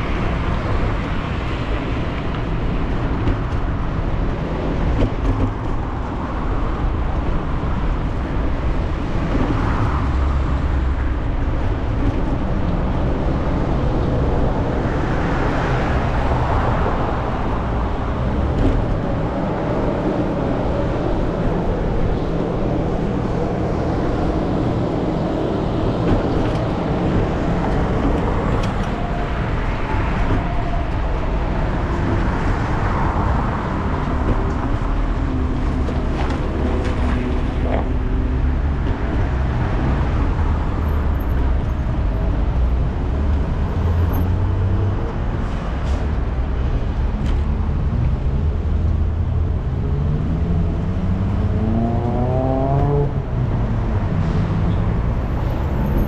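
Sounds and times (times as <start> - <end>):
low traffic rumble: 0.0 - 56.0
vehicles passing: 0.0 - 56.0.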